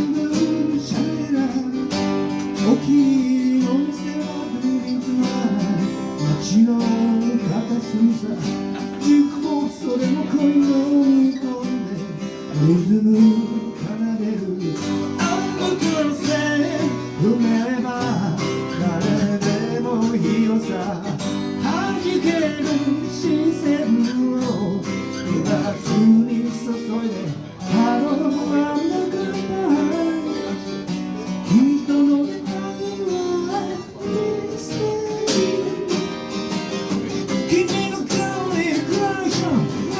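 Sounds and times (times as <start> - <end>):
bending guitar melody: 0.0 - 39.9
strummed guitar chords: 0.0 - 39.9.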